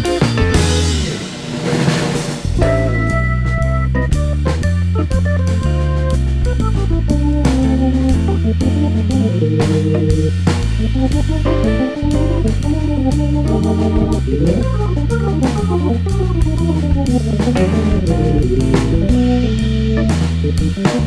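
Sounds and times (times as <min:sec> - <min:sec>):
bass: 0:00.0 - 0:21.0
guitar: 0:00.0 - 0:21.0
organ: 0:00.0 - 0:21.0
steady drum beat: 0:00.0 - 0:21.0.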